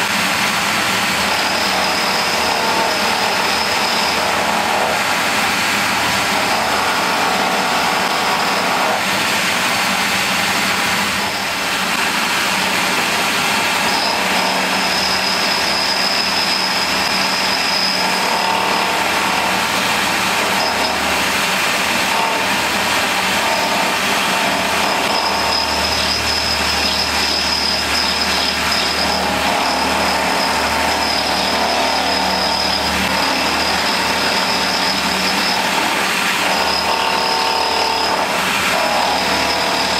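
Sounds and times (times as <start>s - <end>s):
high cutting whine: 0.0s - 39.9s
milling machine cutting metal: 0.0s - 39.9s.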